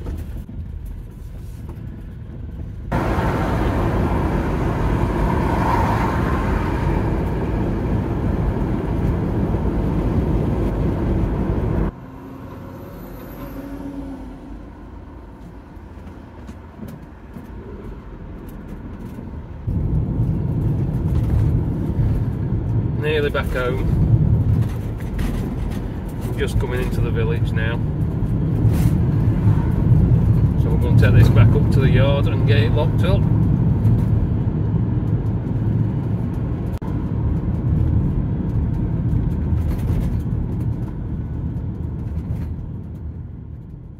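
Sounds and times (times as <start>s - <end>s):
road and engine noise in van: 0.0s - 43.9s.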